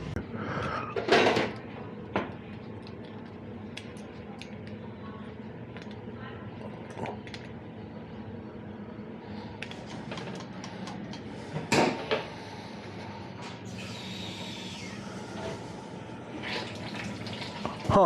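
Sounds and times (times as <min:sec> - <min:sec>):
constant low hum: 0:00.0 - 0:18.0.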